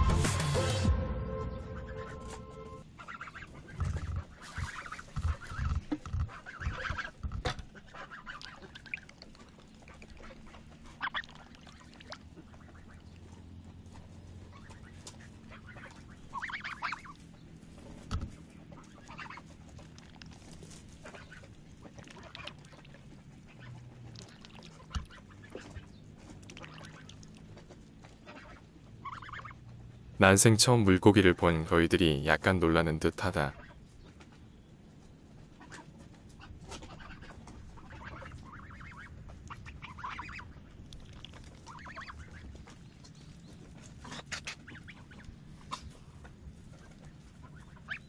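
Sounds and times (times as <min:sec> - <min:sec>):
geese honking: 0:00.0 - 0:48.0.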